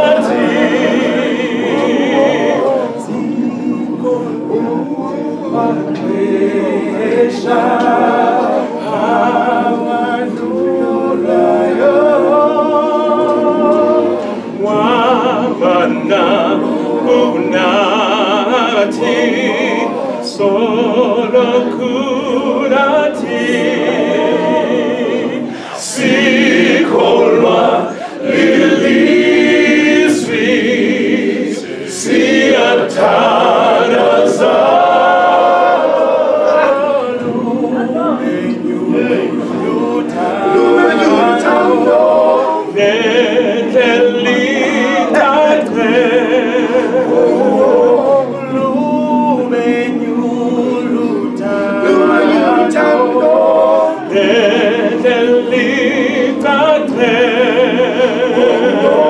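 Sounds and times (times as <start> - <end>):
men's choir singing gospel: 0.0 - 59.0.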